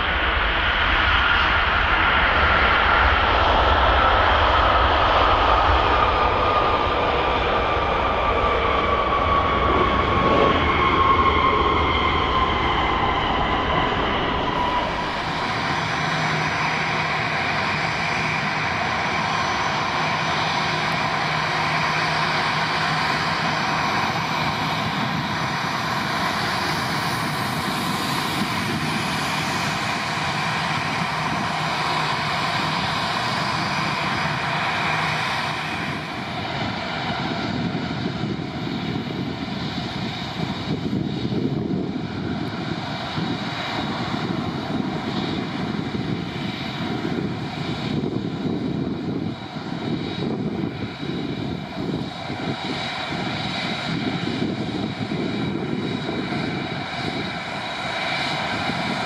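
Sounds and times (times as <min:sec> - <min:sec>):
jet engines passing: 0:00.0 - 0:59.0.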